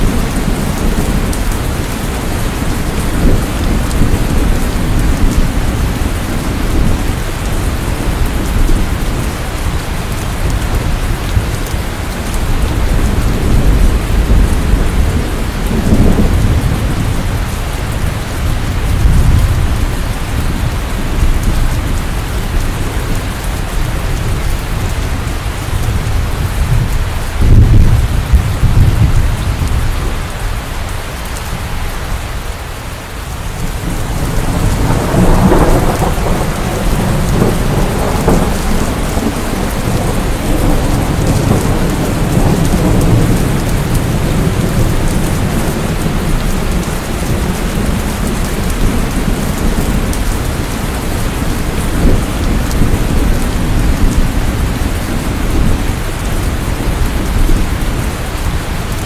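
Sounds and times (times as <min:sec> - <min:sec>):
rolling thunder: 0:00.0 - 0:30.6, 0:33.4 - 0:59.0
heavy rain: 0:00.0 - 0:59.0.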